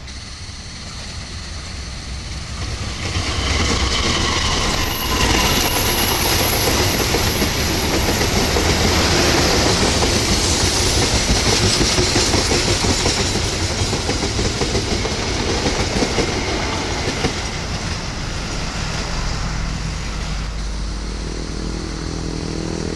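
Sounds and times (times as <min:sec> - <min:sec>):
train wheels clattering: 0:00.0 - 0:20.8.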